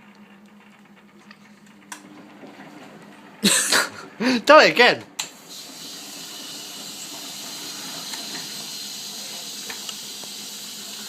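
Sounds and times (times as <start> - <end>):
washing machine running: 0.0 - 11.0.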